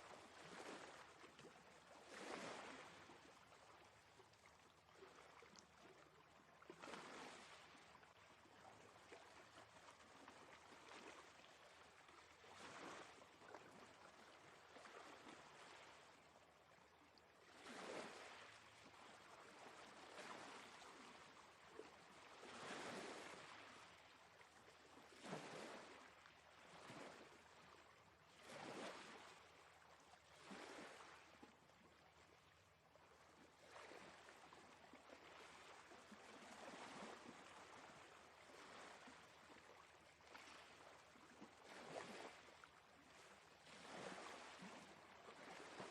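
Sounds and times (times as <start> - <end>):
faint sea waves washing in: 0.0 - 45.9.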